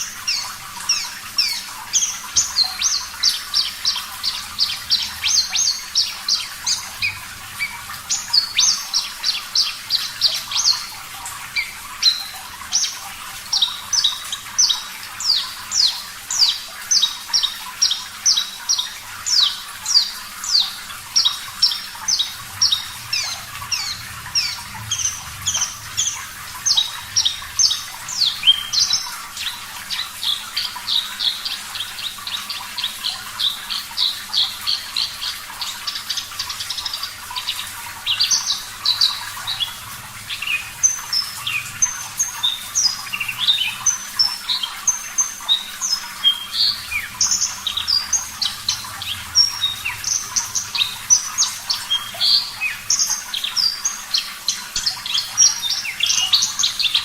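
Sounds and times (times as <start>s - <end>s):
faint running water: 0.0s - 57.0s.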